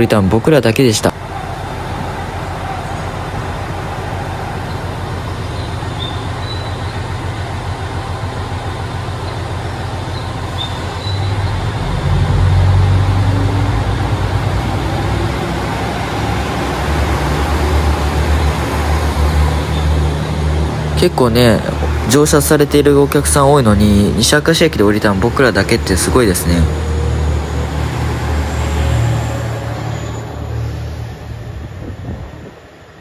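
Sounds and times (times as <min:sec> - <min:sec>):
diesel train engine rumble: 0:00.0 - 0:33.0.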